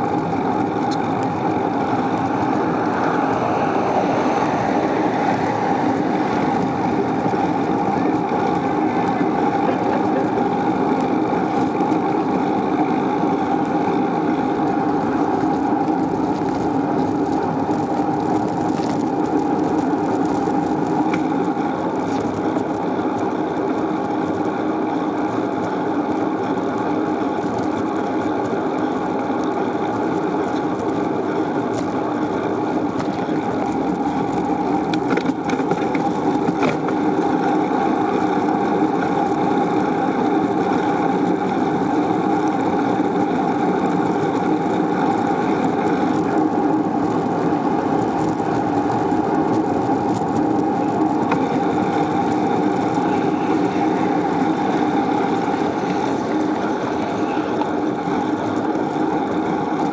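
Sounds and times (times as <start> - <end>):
bicycle road noise: 0.0 - 59.9.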